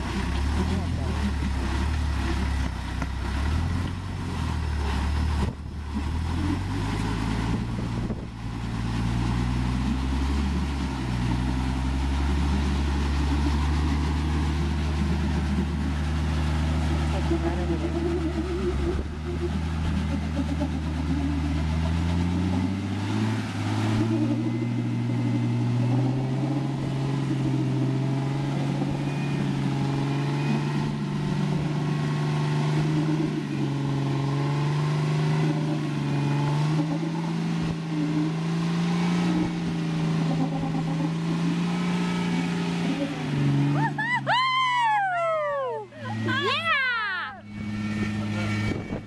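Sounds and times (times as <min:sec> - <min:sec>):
engine revving under load: 0:00.0 - 0:49.0.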